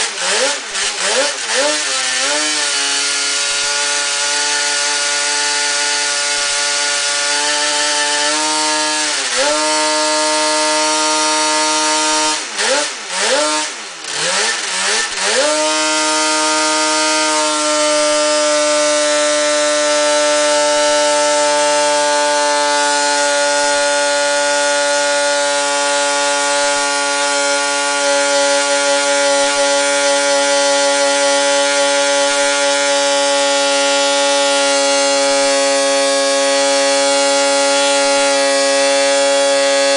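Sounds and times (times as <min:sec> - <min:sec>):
snowmobile engine at high revs: 0:00.0 - 0:39.9.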